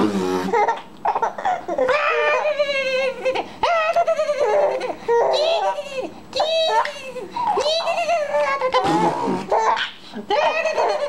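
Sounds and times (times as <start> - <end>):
baby squealing: 0.5 - 5.8, 6.4 - 11.0.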